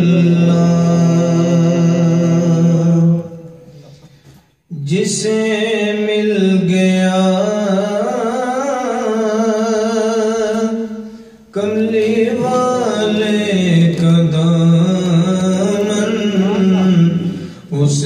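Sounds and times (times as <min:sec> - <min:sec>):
man chanting: 0:00.0 - 0:03.8, 0:04.7 - 0:18.0.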